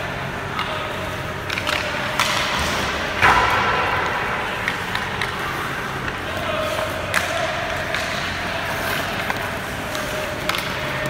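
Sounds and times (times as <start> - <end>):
hockey stick tapping puck: 0.5 - 11.0.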